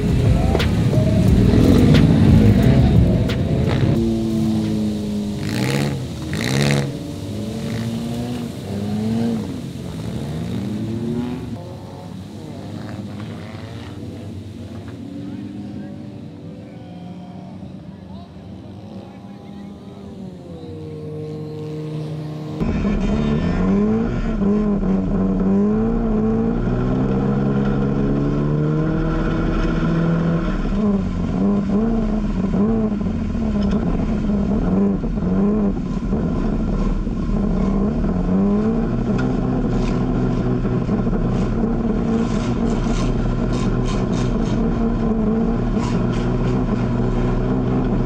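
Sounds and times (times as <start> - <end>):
low rumble: 0.0 - 48.0
race car engine revving: 0.0 - 48.0.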